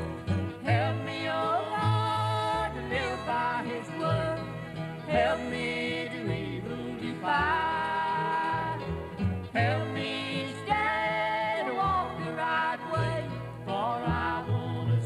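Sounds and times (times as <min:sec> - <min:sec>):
instrumental backing: 0:00.0 - 0:15.0
person singing gospel song: 0:00.0 - 0:15.0.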